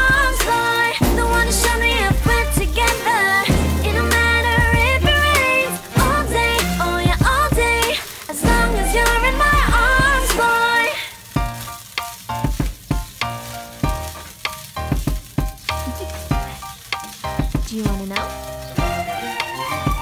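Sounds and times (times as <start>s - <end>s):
fried rice sizzling in pan: 0.0s - 20.0s.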